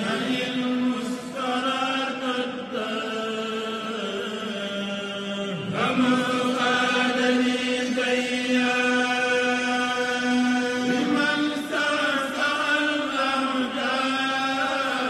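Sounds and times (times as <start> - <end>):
voices chanting sustained notes: 0.0 - 15.0.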